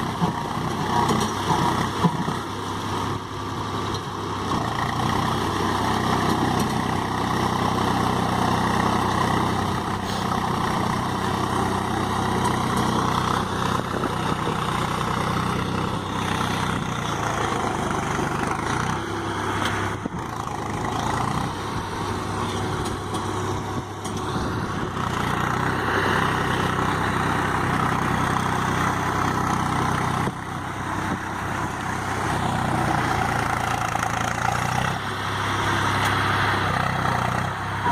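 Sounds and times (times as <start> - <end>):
diesel tractor engine running: 0.0 - 37.9.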